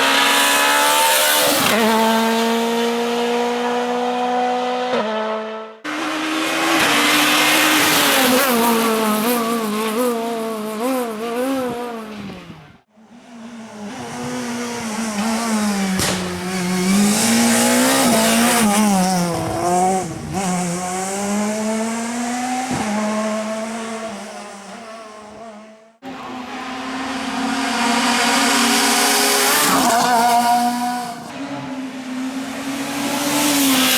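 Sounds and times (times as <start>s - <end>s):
rally car engines at high revs: 0.0s - 33.9s.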